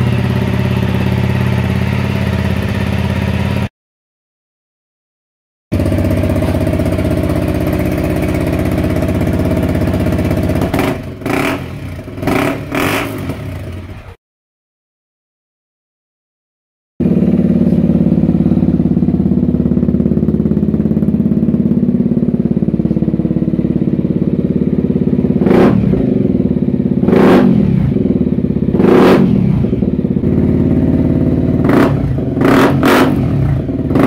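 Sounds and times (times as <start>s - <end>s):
motorcycle engine idling and revving: 0.0s - 3.7s, 5.7s - 14.2s, 17.0s - 34.0s.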